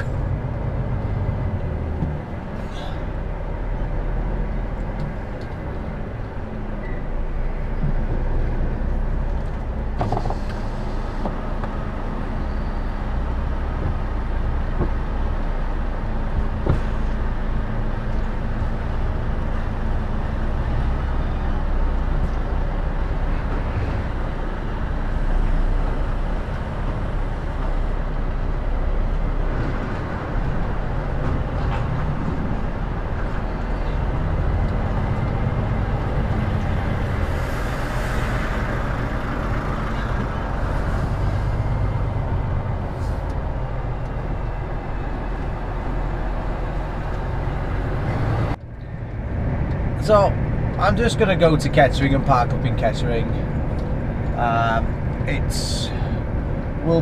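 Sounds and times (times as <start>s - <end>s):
diesel truck engine rumble: 0.0s - 57.0s.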